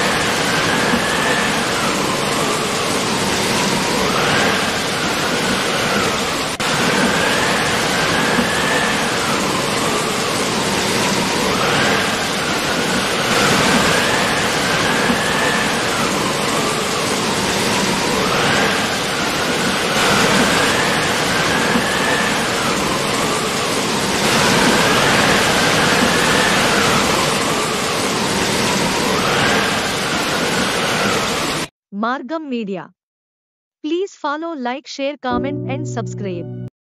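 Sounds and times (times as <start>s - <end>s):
water rushing hiss: 0.0s - 31.6s.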